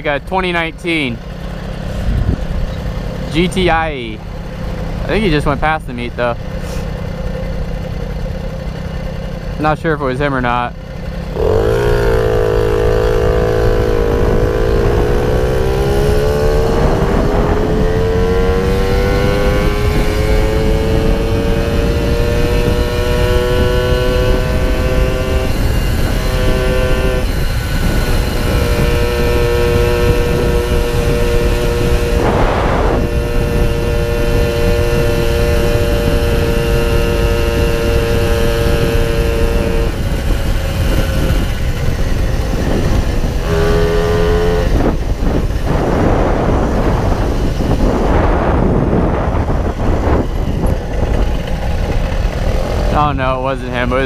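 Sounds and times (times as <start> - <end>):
two-stroke moped engine buzzing: 0.0 - 54.0
wind rumble on microphone: 2.0 - 4.2, 11.4 - 54.0.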